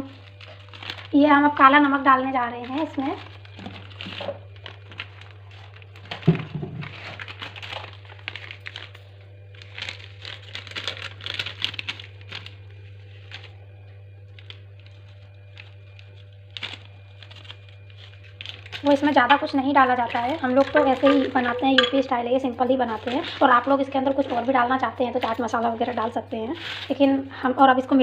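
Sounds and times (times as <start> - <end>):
plastic packet crinkling: 0.0 - 27.9
steady low hum: 0.0 - 28.0.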